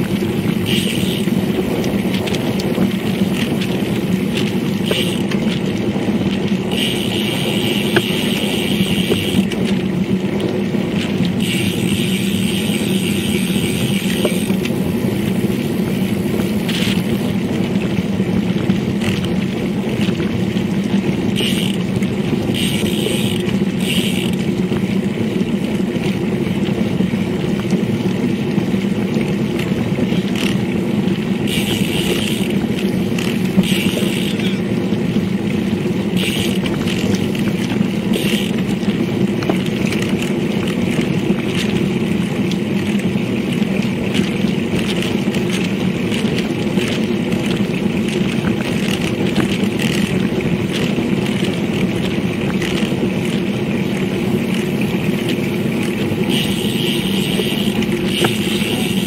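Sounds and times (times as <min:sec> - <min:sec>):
wind and tyre noise: 0:00.0 - 0:59.0.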